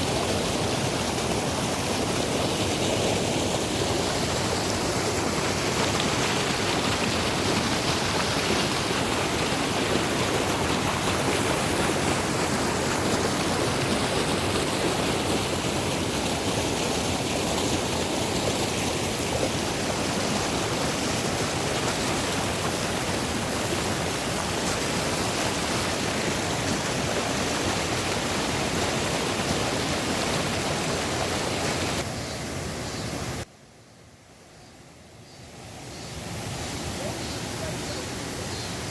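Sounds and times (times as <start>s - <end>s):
mountain stream rushing: 0.0s - 33.5s, 36.0s - 38.9s.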